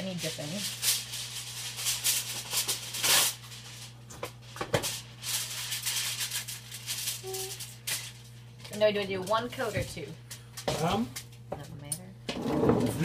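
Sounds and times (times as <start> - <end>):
aluminium foil crinkling: 0.0 - 11.5.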